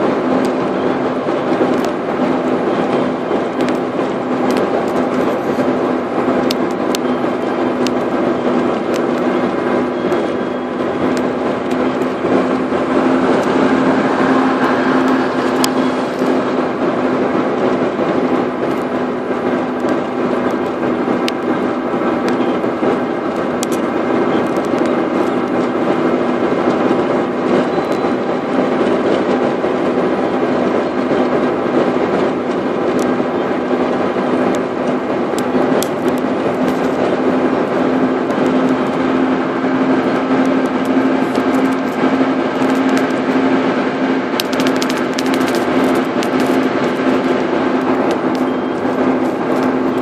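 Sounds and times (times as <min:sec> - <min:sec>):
low engine hum: 0:00.0 - 0:50.0
tyre and road noise: 0:00.0 - 0:50.0.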